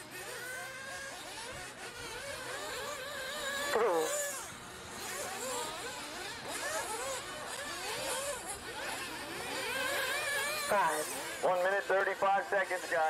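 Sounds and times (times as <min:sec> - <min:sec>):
rc car engines whining: 0:00.0 - 0:13.0.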